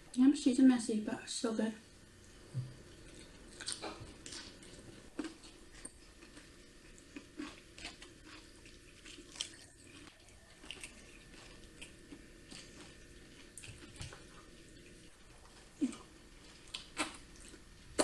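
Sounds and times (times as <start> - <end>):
person chewing crunchy food: 2.7 - 18.0.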